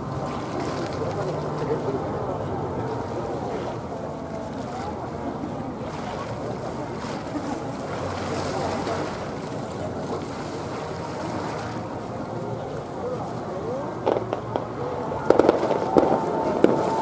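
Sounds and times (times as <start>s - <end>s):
crowd murmur: 0.0s - 17.0s.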